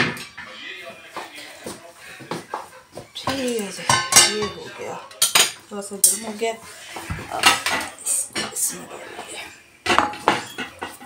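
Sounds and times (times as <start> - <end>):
utensils and dishes clattering: 0.0 - 0.6, 1.7 - 11.0.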